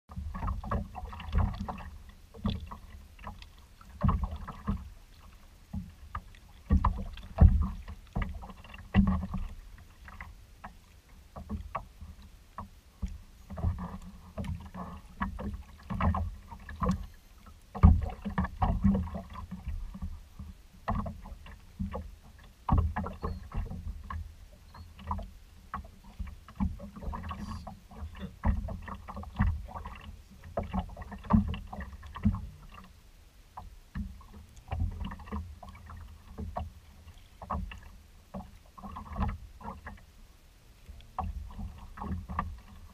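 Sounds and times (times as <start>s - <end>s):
waves slapping against kayak hull: 0.1s - 42.9s.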